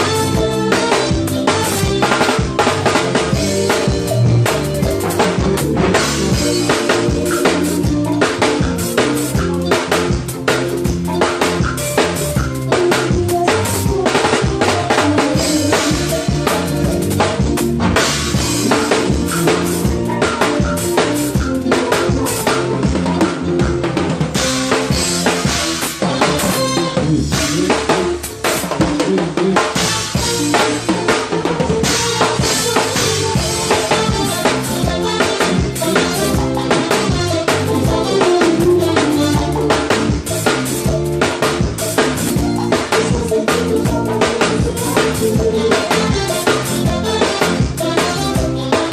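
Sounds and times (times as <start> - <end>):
drum kit fast rhythm: 0.0 - 48.9
live band playing: 0.0 - 48.9.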